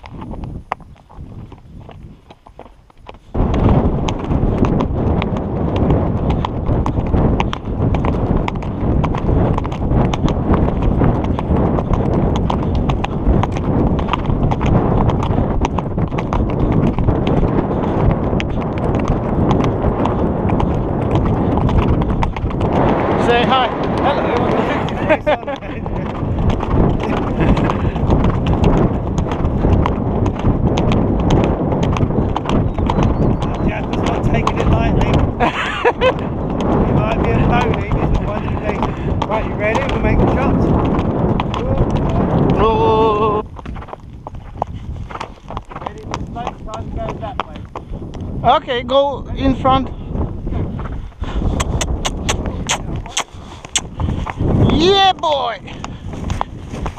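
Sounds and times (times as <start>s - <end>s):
horse hoofbeats on dirt: 0.0s - 56.9s
wind buffeting microphone: 0.0s - 56.9s.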